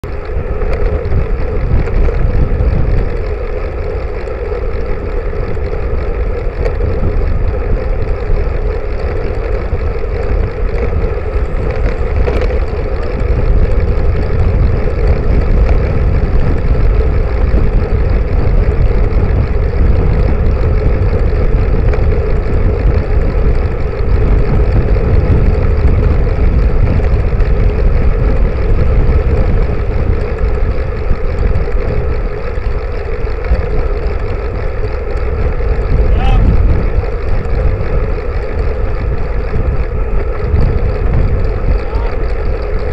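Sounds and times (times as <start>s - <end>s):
low hum: 0.0s - 42.9s
road rumble: 0.0s - 42.9s
wind rush: 0.0s - 42.9s.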